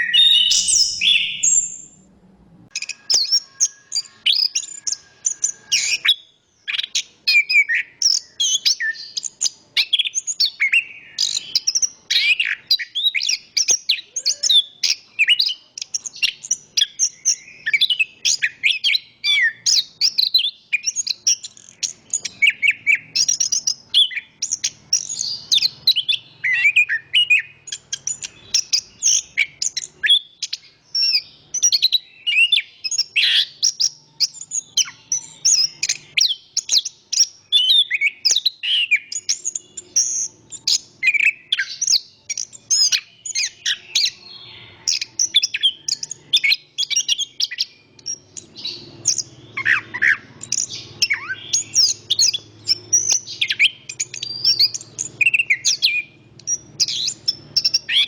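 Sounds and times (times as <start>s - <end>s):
bird chirping and whistling: 0.0s - 2.0s, 2.7s - 58.0s.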